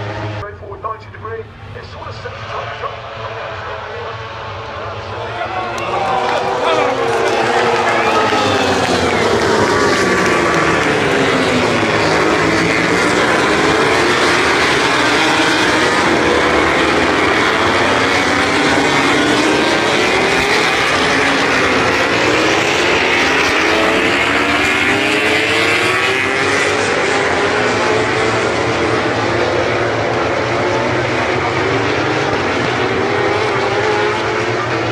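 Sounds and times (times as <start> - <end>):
racing motorcycle engines revving: 0.0 - 34.9.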